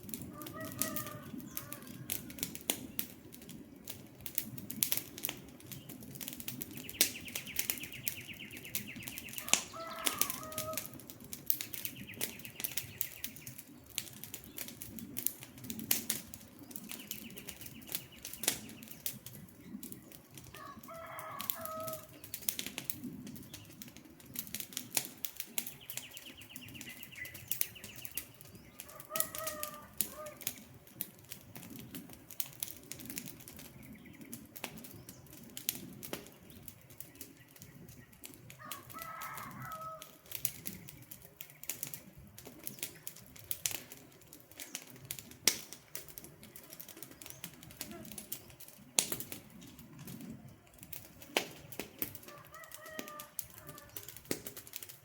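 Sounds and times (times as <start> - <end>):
campfire crackling and popping: 0.0 - 55.0
low rush of flame: 0.0 - 55.0.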